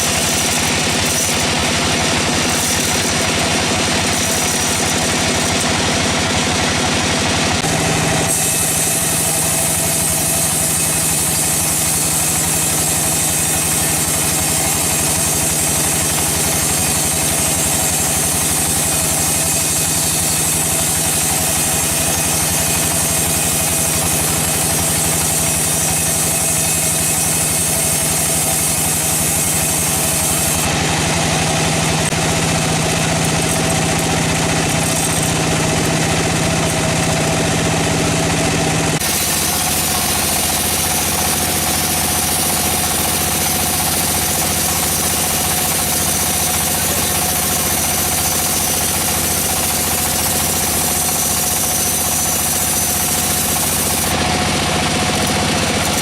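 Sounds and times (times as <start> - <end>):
sawmill machinery engine humming: 0.0 - 56.0.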